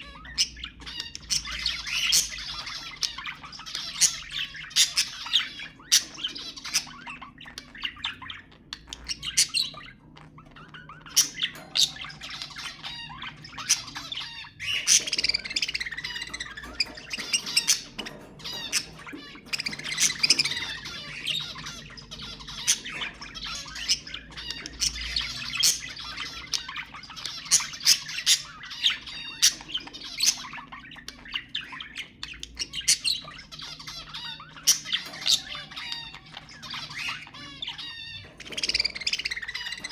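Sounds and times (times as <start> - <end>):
budgerigars chattering and warbling: 0.0 - 39.9
sharp squawks and chirps: 0.0 - 39.9.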